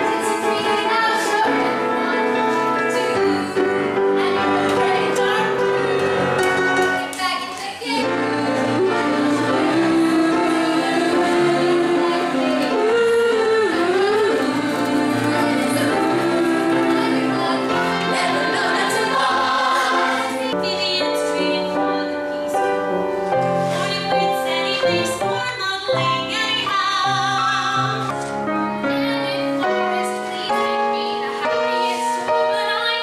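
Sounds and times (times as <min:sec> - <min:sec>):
women singing: 0:00.0 - 0:22.9, 0:23.7 - 0:28.1, 0:28.8 - 0:33.0
instrumental accompaniment: 0:00.0 - 0:33.0.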